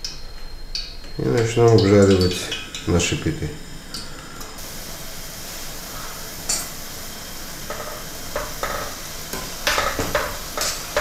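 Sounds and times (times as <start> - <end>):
bread sizzling in hot oil: 1.8 - 11.0.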